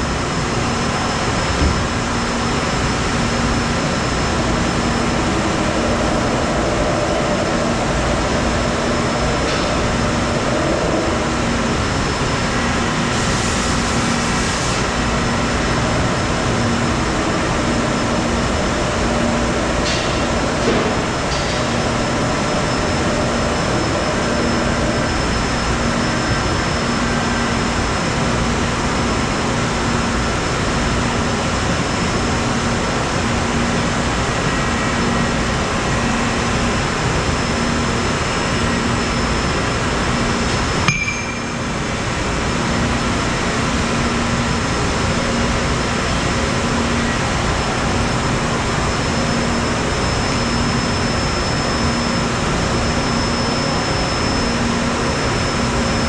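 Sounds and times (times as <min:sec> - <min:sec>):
machine shop hum and whine: 0:00.0 - 0:56.0.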